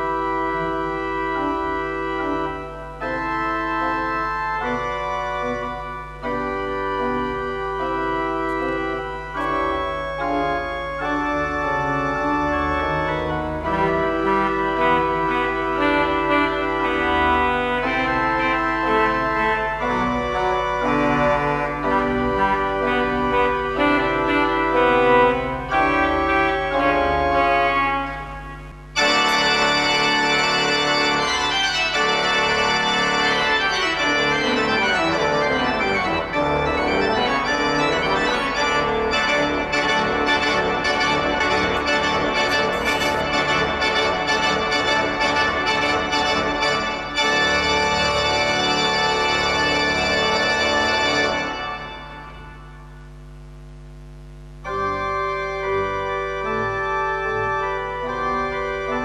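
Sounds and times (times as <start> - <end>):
pipe organ playing: 0.0 - 53.0, 54.6 - 59.0.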